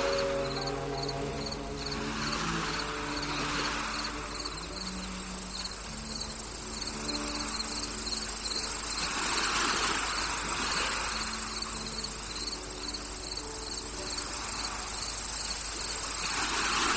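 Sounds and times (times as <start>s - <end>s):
crickets chirping: 0.0s - 16.9s
gentle rushing swell: 0.0s - 16.9s
soft held music tones: 0.0s - 16.9s
steady insect trill: 0.0s - 16.9s.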